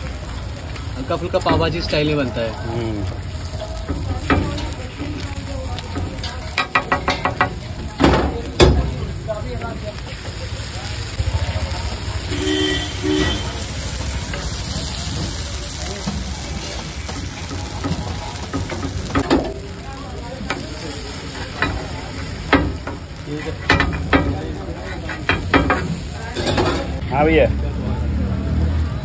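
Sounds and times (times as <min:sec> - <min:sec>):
food sizzling on griddle: 0:00.0 - 0:29.0
metal spatula scraping griddle: 0:00.7 - 0:09.4, 0:10.1 - 0:27.0.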